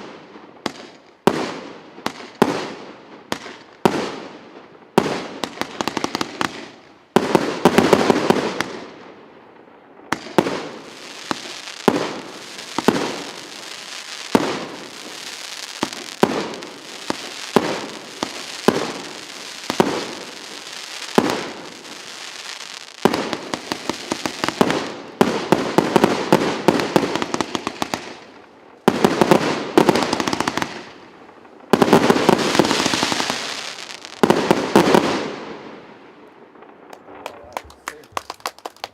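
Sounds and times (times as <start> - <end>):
firework bangs with crackling fizz: 0.0 - 4.3, 4.9 - 9.1, 10.1 - 35.9.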